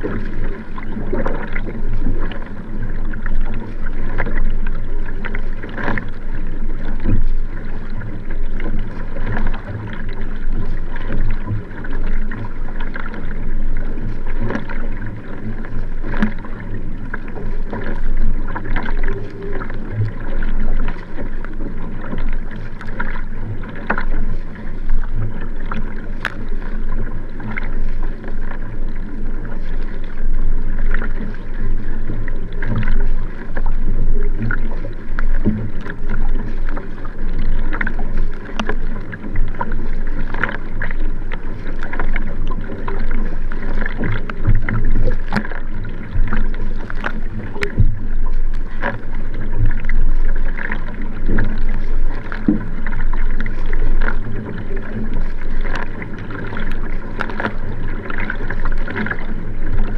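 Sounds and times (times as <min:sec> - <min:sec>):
paddle splashing: 0:00.0 - 0:59.9
rushing water: 0:00.0 - 0:59.9.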